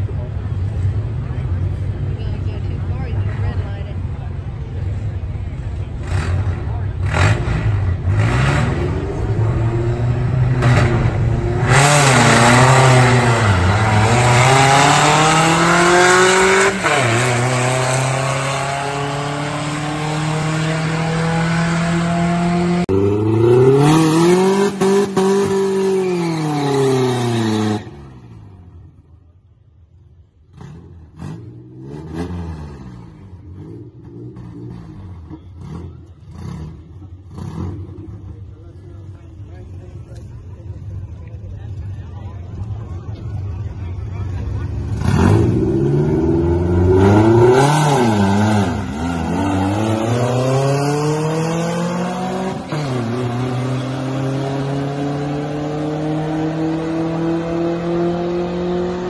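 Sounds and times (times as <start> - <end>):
car engines revving hard: 0.0 - 28.8, 30.4 - 59.0.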